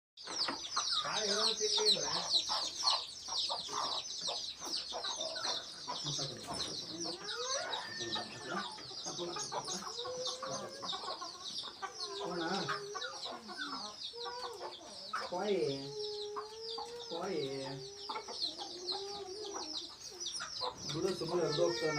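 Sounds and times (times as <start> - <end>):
chicks peeping: 0.2 - 21.9
hen clucking: 0.2 - 21.9.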